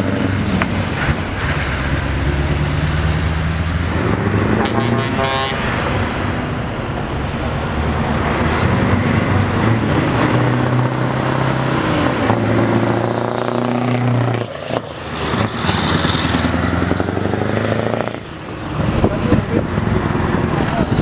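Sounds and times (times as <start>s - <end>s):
diesel truck engines pulling away: 0.0s - 21.0s.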